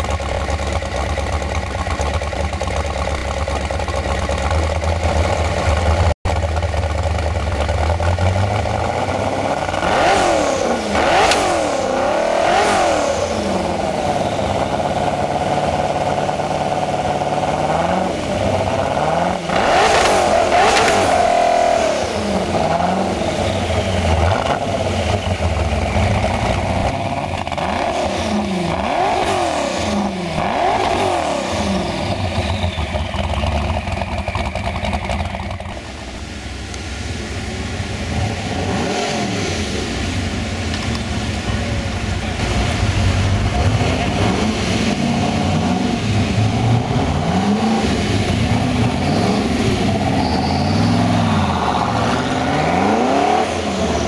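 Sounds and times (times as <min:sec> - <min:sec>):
car engine idling: 0:00.0 - 0:54.0
car engine revving loudly: 0:04.5 - 0:06.2, 0:07.5 - 0:54.0.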